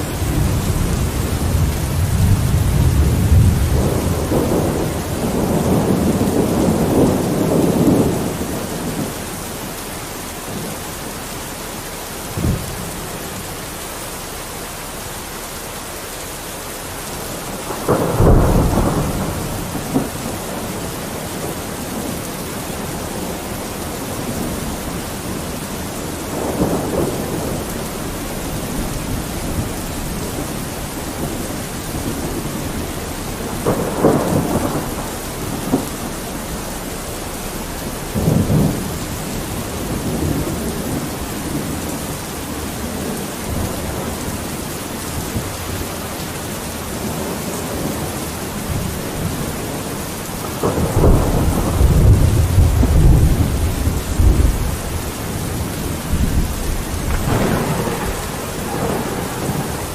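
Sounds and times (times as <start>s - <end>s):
thunder rolling: 0.0s - 9.7s, 17.2s - 44.6s, 46.9s - 59.9s
steady rain: 0.0s - 59.9s.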